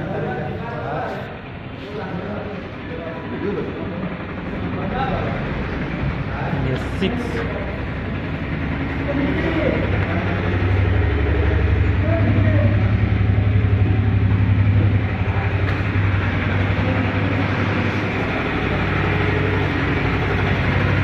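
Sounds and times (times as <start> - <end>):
three-wheeler engine idling: 0.0 - 21.0.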